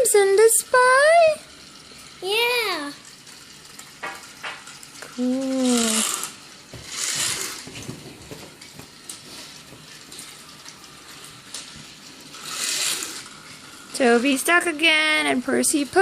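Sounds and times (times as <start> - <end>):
toy train clicks: 0.0 - 8.0, 8.6 - 16.0
toy train rattling hum: 0.0 - 16.0.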